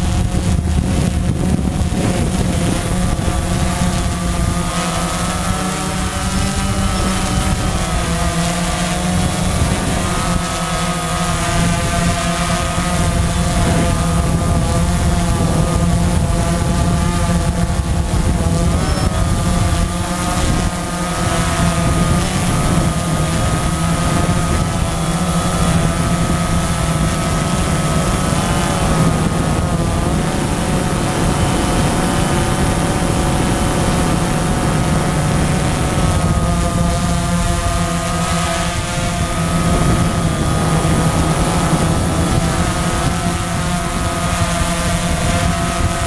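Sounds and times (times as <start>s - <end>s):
drone propellers whirring: 0.0s - 46.0s.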